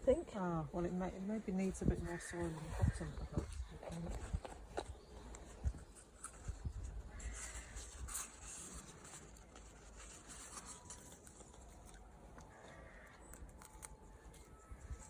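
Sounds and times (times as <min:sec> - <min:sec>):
faint rustling of soil: 0:00.0 - 0:15.0.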